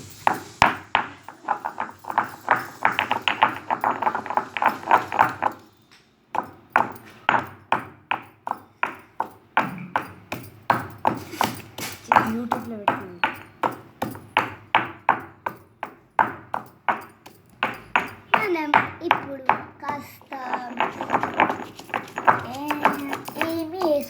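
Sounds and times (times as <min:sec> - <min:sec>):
pestle pounding in mortar: 0:00.0 - 0:05.7, 0:06.3 - 0:24.0.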